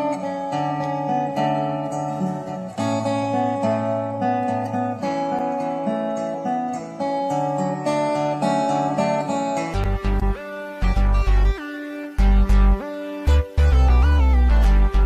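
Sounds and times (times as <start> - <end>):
guitar playing chords: 0.0 - 15.0.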